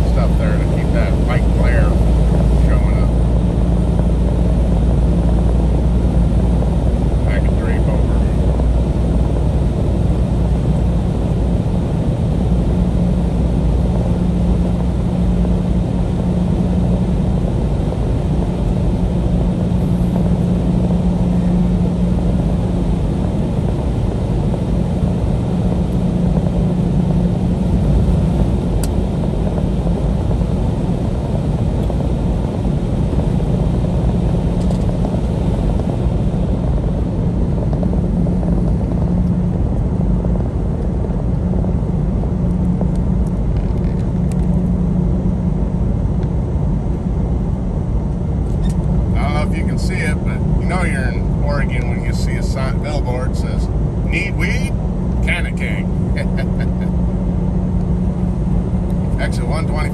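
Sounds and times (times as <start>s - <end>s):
truck diesel engine drone: 0.0s - 59.9s
tyre road rumble: 0.0s - 59.9s.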